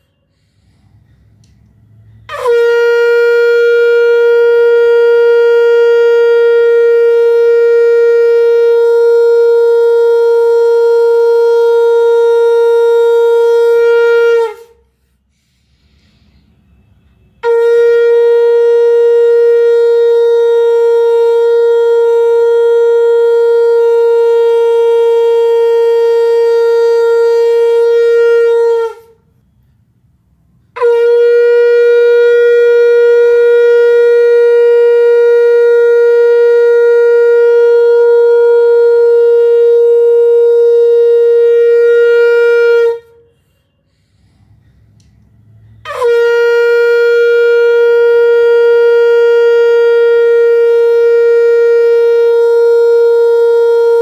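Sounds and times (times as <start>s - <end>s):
conch shell blasts: 0.0s - 15.0s, 16.0s - 29.6s, 30.5s - 54.0s.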